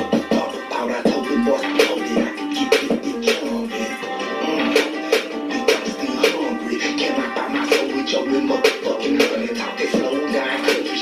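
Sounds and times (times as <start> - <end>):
hip-hop music: 0.0 - 11.0
man rapping: 0.0 - 11.0.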